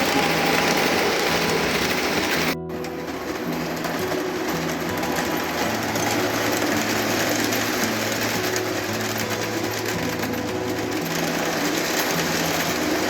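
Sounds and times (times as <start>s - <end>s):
model train motor whirr: 0.0s - 13.0s
wheels rumbling on rails: 0.0s - 13.0s.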